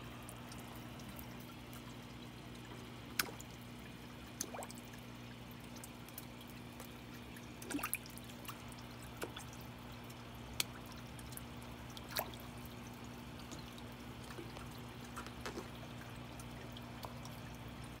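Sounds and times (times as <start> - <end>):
fish splashes and slurps: 0.0 - 18.0
steady low hum: 0.0 - 18.0.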